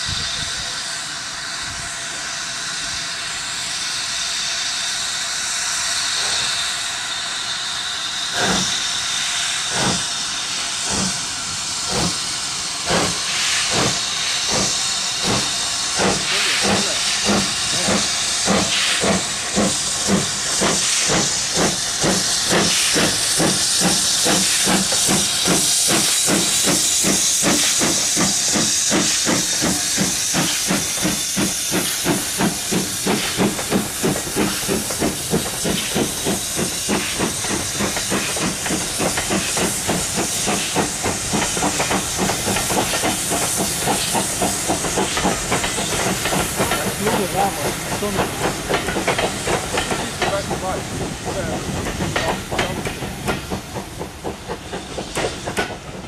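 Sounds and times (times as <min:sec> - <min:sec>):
steam hiss: 0:00.0 - 0:56.0
steam locomotive exhaust beats: 0:00.0 - 0:56.0.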